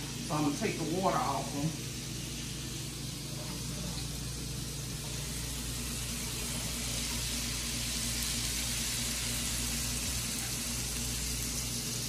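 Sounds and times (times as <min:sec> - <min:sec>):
vegetables sizzling in a skillet: 0:00.0 - 0:12.0.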